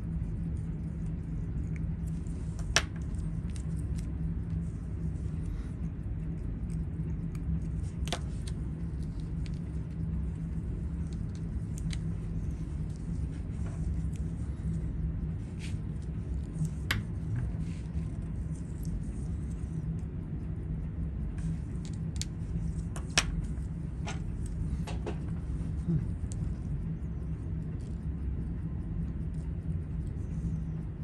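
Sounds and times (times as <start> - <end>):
low rumble: 0.0 - 31.0.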